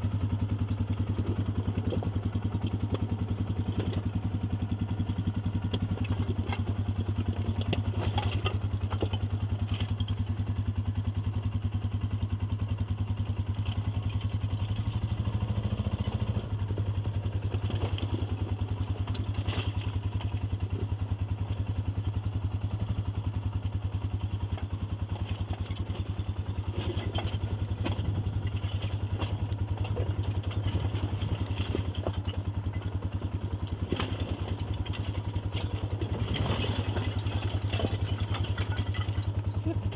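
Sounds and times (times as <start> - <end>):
atv engine running: 0.0 - 39.9
vehicle clattering over rough ground: 0.0 - 39.9.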